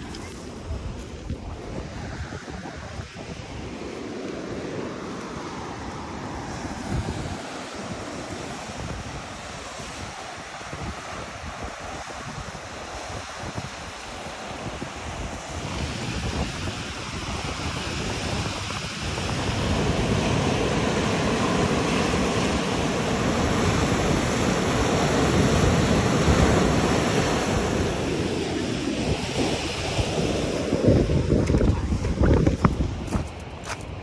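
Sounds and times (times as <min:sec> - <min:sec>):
wind buffeting microphone: 0:00.0 - 0:34.0
waves breaking on rocky shore: 0:03.6 - 0:33.1.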